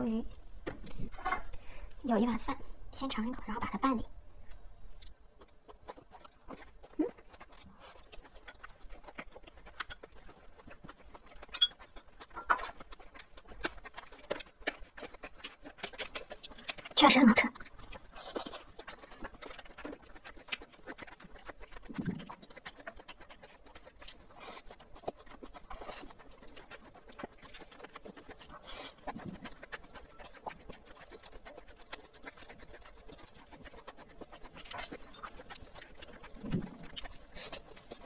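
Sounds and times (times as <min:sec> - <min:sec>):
chewing mouth noises: 0:04.4 - 0:38.0.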